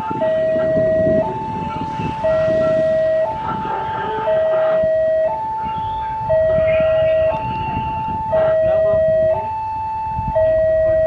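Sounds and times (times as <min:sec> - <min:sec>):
level crossing alarm two-tone signal: 0:00.0 - 0:11.0.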